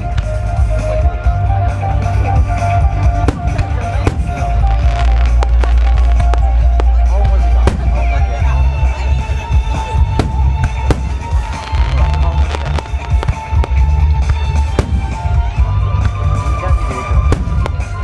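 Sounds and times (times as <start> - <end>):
fireworks bangs and crackles: 0.0 - 18.0
music playing: 0.0 - 18.0
deep fireworks booms: 2.8 - 18.0.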